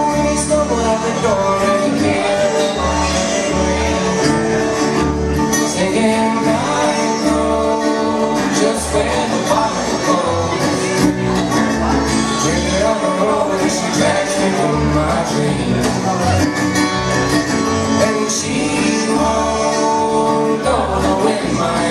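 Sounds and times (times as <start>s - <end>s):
live bluegrass band playing: 0.0s - 21.9s.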